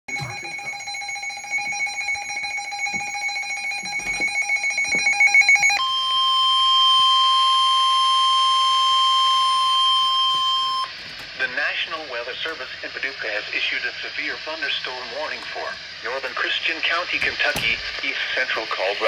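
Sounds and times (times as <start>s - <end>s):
steady alarm tone: 0.1s - 19.0s.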